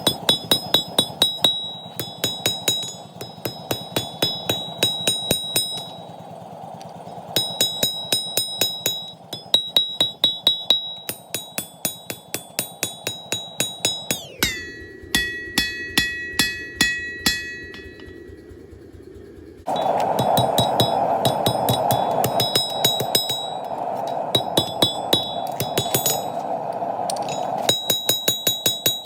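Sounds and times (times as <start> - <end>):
hammer ringing on anvil: 0.0 - 6.2, 7.4 - 18.4, 19.7 - 26.4, 27.1 - 29.0.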